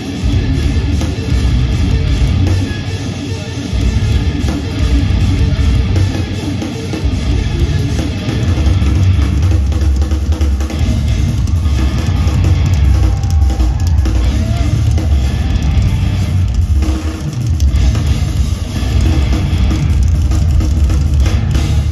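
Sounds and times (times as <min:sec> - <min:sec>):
drum kit: 0:00.0 - 0:21.9
live heavy metal band: 0:00.0 - 0:21.9.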